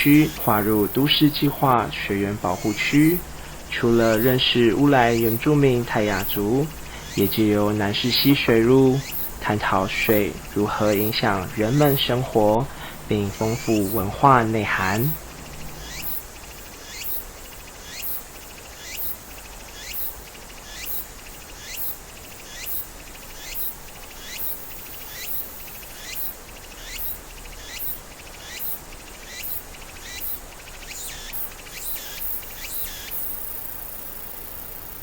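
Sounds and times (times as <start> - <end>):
insect chirping: 0.0 - 35.0
steady high hiss: 0.0 - 35.0.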